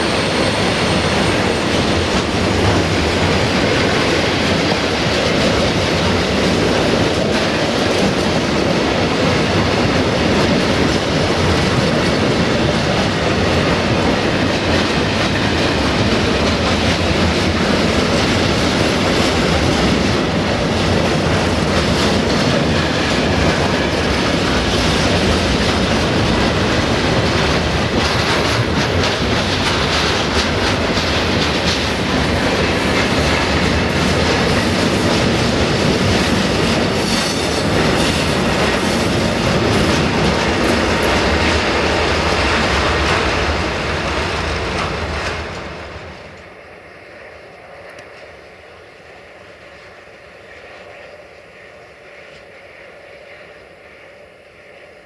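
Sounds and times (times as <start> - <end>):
wheels clacking over rail joints: 0.0 - 45.9
train wheels rolling on rails: 0.0 - 55.0.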